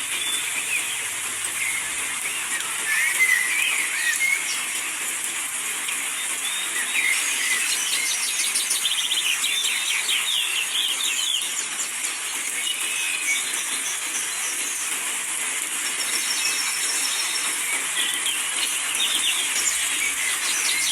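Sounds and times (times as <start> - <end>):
small birds chirping: 0.0 - 5.0, 5.8 - 20.9
rain falling: 0.0 - 20.9.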